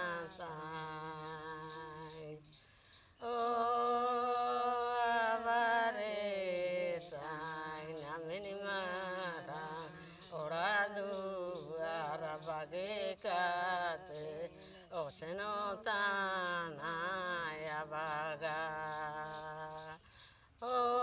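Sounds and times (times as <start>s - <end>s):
person singing slow melody: 0.0s - 21.0s.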